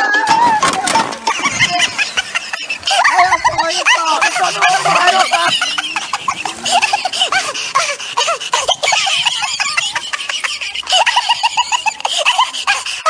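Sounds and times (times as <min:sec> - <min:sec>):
loud laughter: 0:00.0 - 0:13.0.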